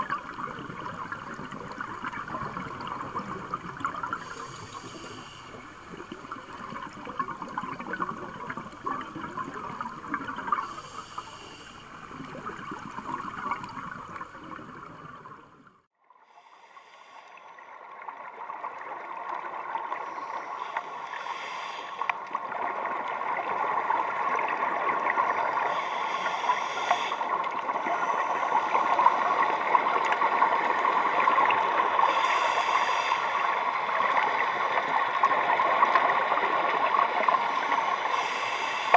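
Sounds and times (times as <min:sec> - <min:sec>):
regulator bubbles gurgling: 0:00.0 - 0:15.9, 0:22.0 - 0:38.9
muffled underwater water rush: 0:00.0 - 0:38.9.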